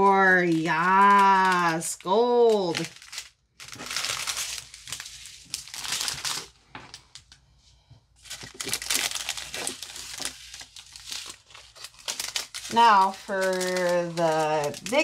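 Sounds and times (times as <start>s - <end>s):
plastic bags crinkling: 0.0s - 7.4s, 8.2s - 15.0s.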